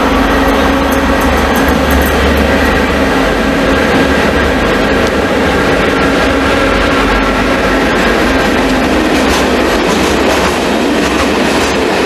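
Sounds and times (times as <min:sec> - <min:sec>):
electric locomotive passing: 0:00.0 - 0:12.0.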